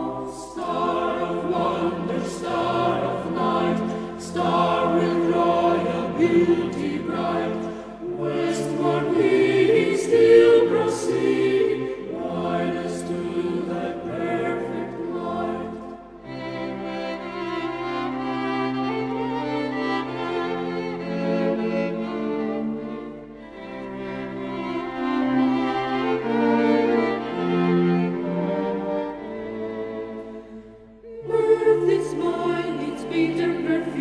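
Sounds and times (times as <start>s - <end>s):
choir singing slow chords: 0.0s - 34.0s.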